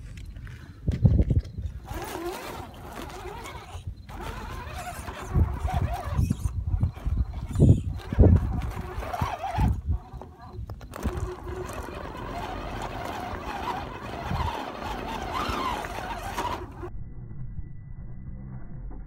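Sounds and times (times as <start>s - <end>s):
electric motor and gearbox whining: 1.2s - 16.9s.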